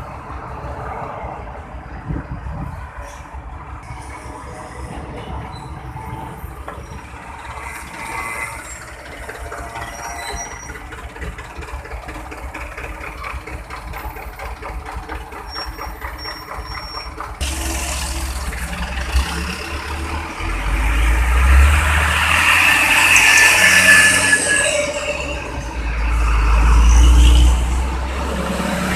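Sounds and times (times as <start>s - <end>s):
truck engine close by: 0.0s - 28.9s
truck traffic noise: 0.0s - 28.9s.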